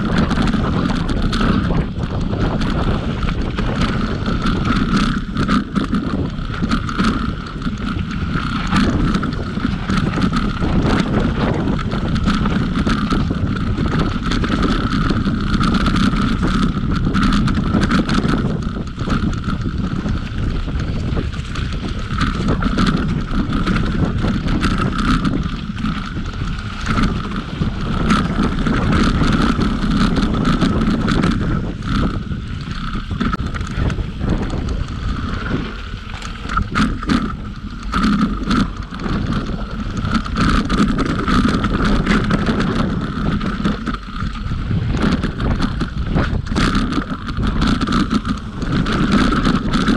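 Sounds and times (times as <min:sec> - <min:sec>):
bike clattering over bumps: 0:00.0 - 0:49.9
tyres rumbling on dirt: 0:00.0 - 0:49.9
wind rushing over microphone: 0:00.0 - 0:49.9.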